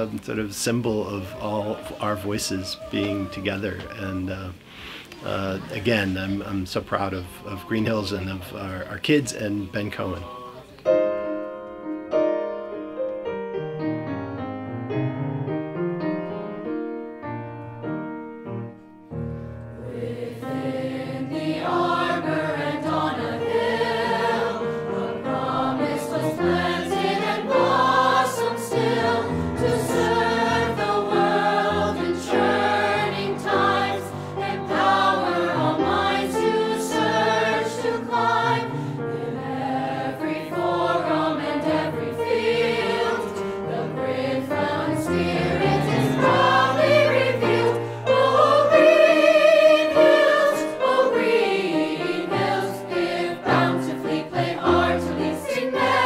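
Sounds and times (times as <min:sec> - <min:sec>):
choir singing: 0:00.0 - 0:11.1, 0:19.7 - 0:56.0
piano accompaniment: 0:10.8 - 0:56.0.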